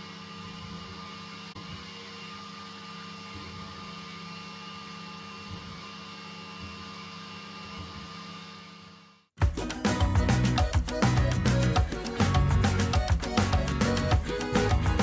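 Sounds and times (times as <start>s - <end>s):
vacuum motor humming: 0.0s - 9.3s, 9.9s - 15.0s.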